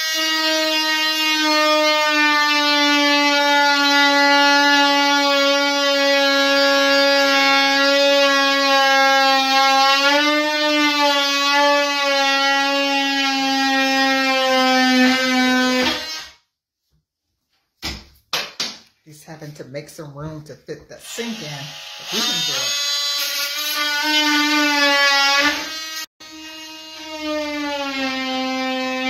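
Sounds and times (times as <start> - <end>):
power tool cutting wood: 0.0 - 16.4, 21.0 - 29.0.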